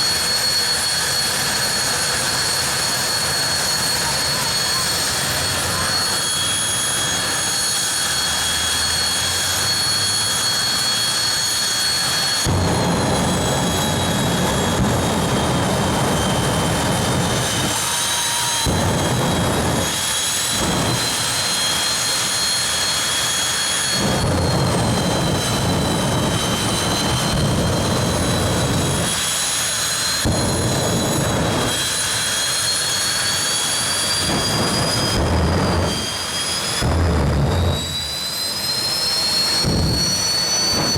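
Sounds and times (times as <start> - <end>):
drag racing engines running loud: 0.0 - 40.9
high whine: 0.0 - 40.9.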